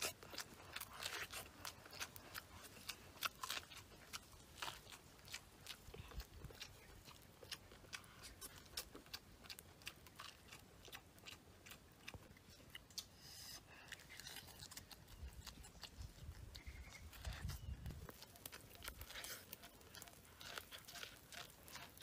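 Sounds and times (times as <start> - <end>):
crunching corn cob: 0.0 - 22.0.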